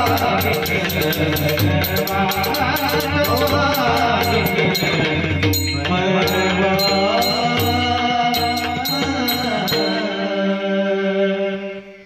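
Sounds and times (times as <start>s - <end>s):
high clicking percussion: 0.0s - 10.3s
person singing: 0.0s - 12.0s.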